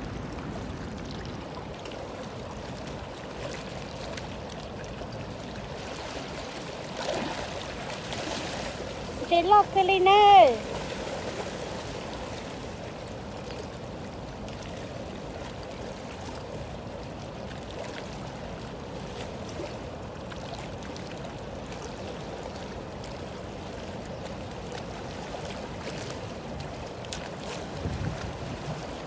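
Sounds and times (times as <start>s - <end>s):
river water rushing past rocks: 0.0s - 29.0s.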